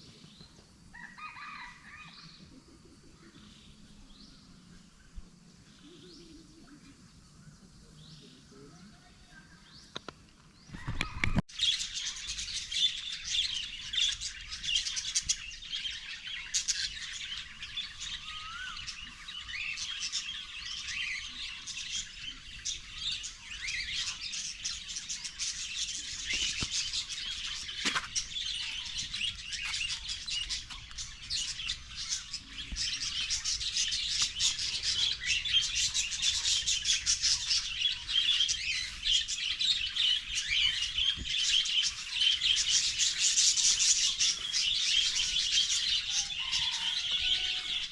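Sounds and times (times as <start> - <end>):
birds chirping and calling: 0.0 - 47.9.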